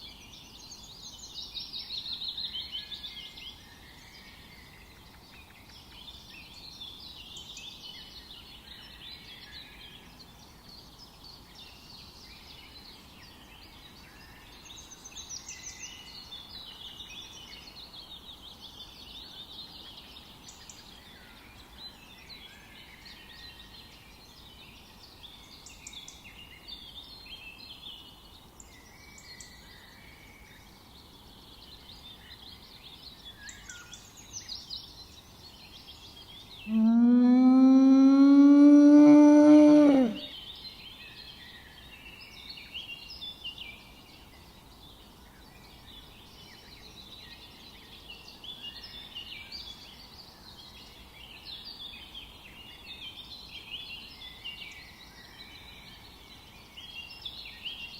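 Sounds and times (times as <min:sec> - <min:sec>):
birds singing and chirping: 0:00.0 - 0:57.9
faint background hiss: 0:00.0 - 0:57.9.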